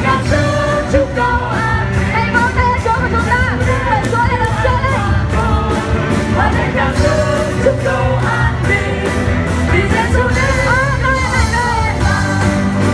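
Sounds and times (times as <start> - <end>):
group of singers: 0.0 - 12.9
heavy bass: 0.0 - 12.9
steady drumbeat: 0.0 - 12.9.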